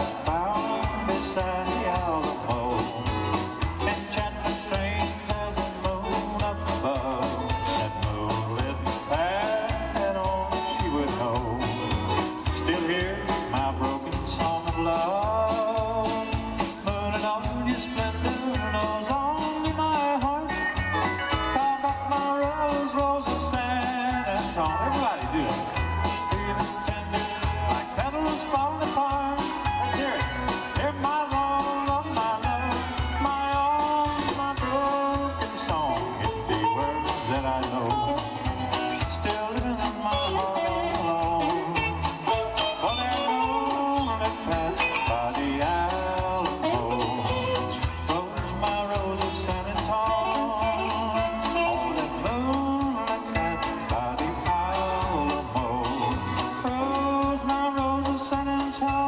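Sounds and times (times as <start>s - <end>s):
electric bass: 0.0s - 59.0s
lead guitar with bending notes: 0.0s - 59.0s
live country band playing: 0.0s - 59.0s
steady drum beat: 0.0s - 59.0s.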